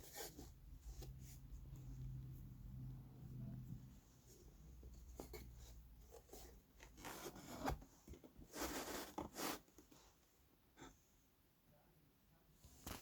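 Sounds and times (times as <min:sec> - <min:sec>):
rubbing and scraping handling noises: 0:00.0 - 0:11.0.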